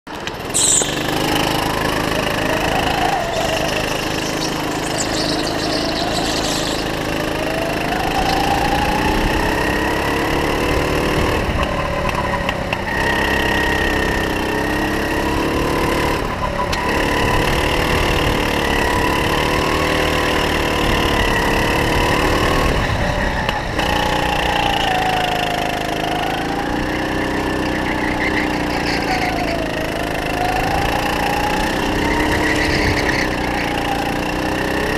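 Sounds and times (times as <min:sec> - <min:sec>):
kart engine revving: 0:00.1 - 0:34.9.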